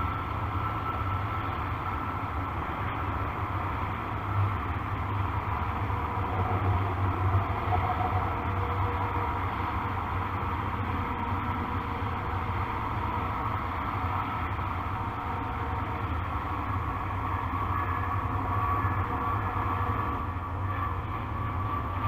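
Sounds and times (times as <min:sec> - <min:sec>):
faint steady hum: 0:00.0 - 0:22.0
outdoor background rumble and hiss: 0:00.0 - 0:22.0.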